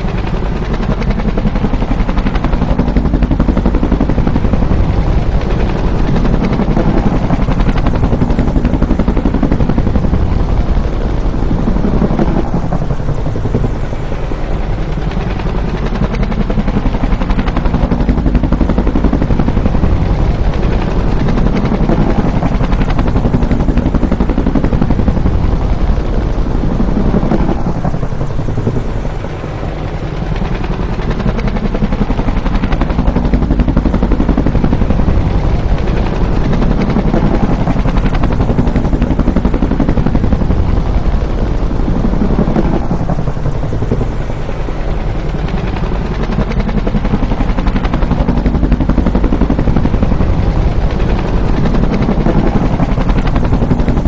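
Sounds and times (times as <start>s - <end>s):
helicopter rotor chop and turbine: 0.0s - 54.0s.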